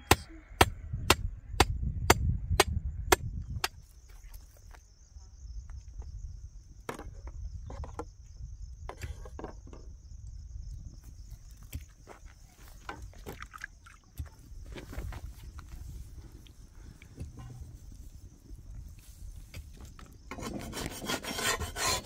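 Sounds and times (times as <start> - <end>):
high insect trill: 2.9 - 22.0.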